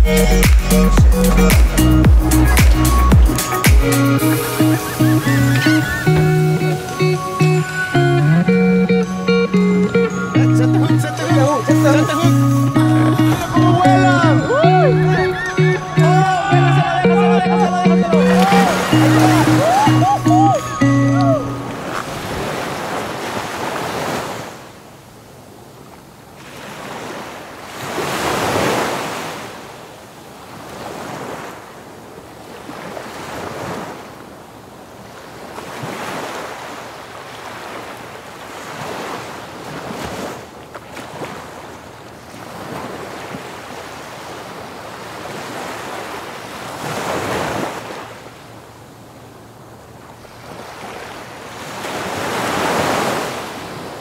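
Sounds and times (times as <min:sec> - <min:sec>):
sea waves breaking: 0:00.0 - 0:25.4, 0:26.0 - 0:54.0.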